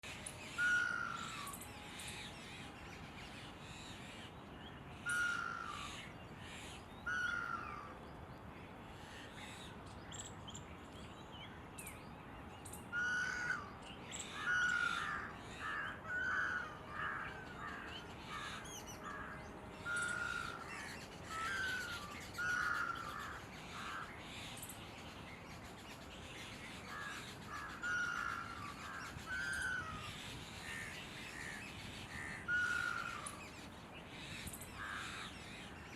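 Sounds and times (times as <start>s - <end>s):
ibis calling: 0.3s - 7.9s, 12.6s - 24.8s, 25.6s - 35.9s.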